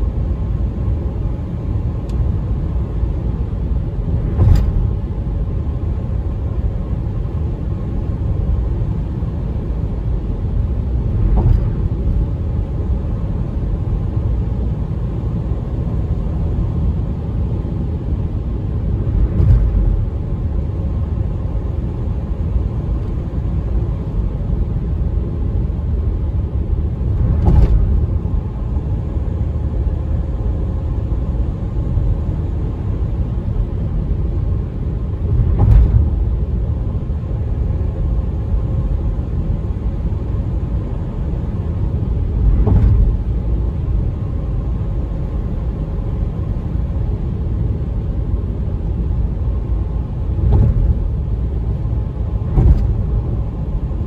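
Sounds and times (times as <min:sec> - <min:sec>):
car road rumble: 0:00.0 - 0:54.0.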